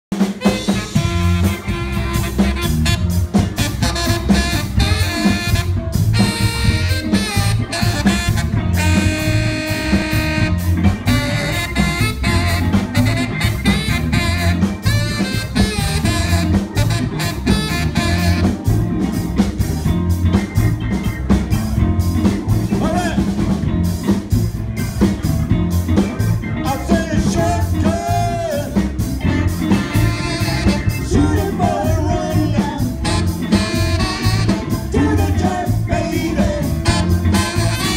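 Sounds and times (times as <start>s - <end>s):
live band playing upbeat tune: 0.1s - 37.9s.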